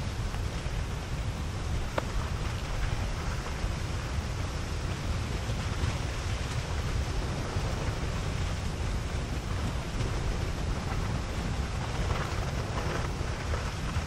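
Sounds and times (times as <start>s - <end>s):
faint crackles: 0.0s - 14.0s
lava flow rushing: 0.0s - 14.0s
wind buffeting microphone: 0.0s - 14.0s.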